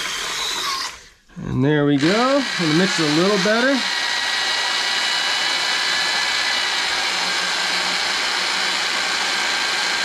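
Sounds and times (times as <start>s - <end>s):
electric drill motor whine: 0.0s - 1.1s, 2.0s - 10.0s.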